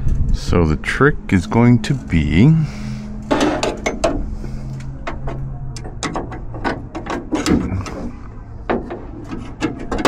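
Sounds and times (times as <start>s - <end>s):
faint low hum: 0.0s - 9.6s.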